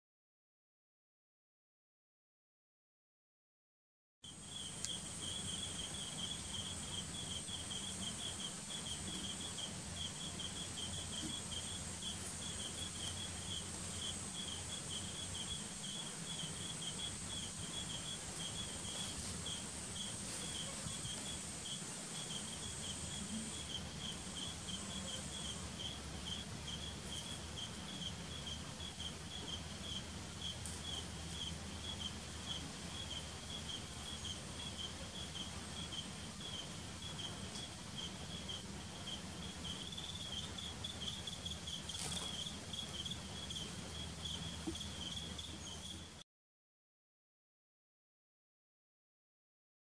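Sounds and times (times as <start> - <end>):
cricket chirping: 4.3 - 46.2
high insect buzz: 4.3 - 46.2.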